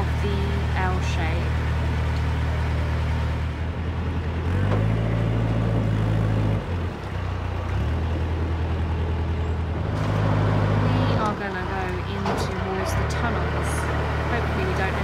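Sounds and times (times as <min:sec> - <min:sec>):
boat diesel engine running: 0:00.0 - 0:15.0.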